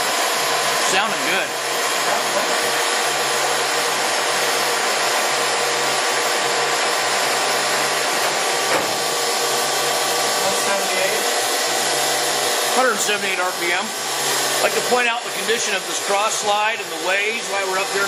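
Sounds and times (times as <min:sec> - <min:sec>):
lathe humming and whining: 0:00.0 - 0:18.0.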